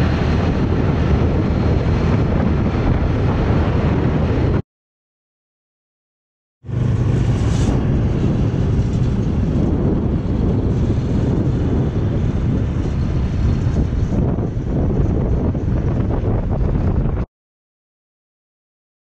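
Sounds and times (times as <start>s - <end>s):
wind rushing over microphone: 0.0s - 4.6s, 6.6s - 17.3s.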